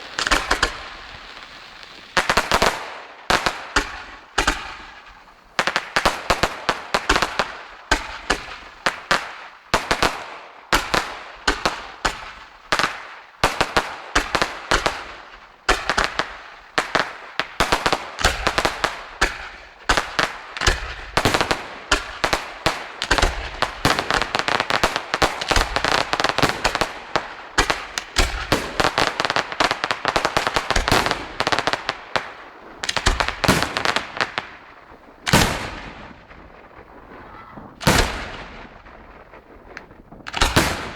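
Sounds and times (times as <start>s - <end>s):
firework bangs: 0.0s - 40.9s
firework crackling: 0.0s - 40.9s.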